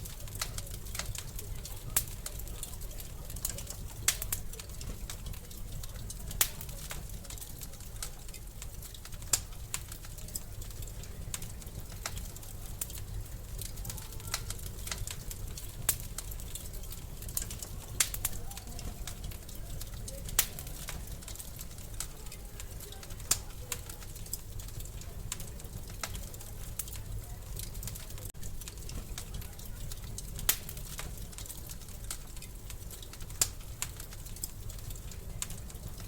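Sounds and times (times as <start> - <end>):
loud snaps of fire: 0.0 - 36.0
wood fire crackling: 0.0 - 36.0.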